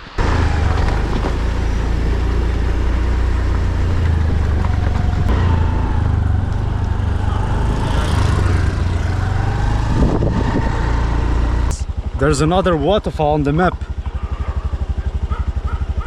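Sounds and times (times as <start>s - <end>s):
motorbike engine running: 0.2s - 16.0s.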